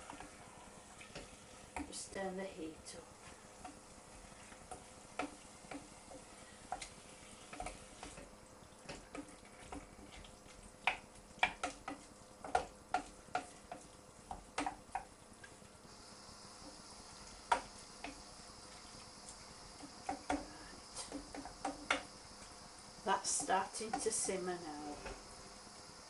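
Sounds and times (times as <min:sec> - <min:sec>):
sauce bubbling in a pan: 0:00.0 - 0:02.0, 0:02.9 - 0:26.0.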